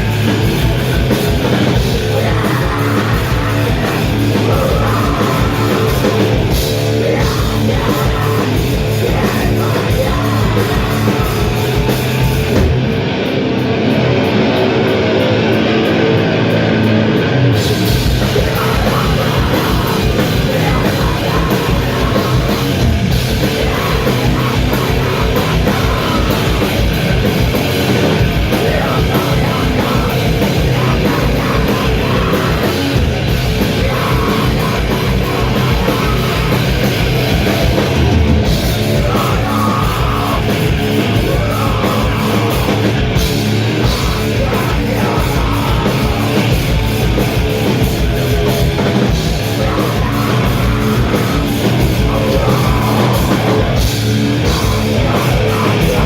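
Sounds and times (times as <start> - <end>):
pounding drums: 0.0 - 15.3, 17.5 - 56.0
bass guitar: 0.0 - 56.0
distorted guitars: 0.0 - 56.0.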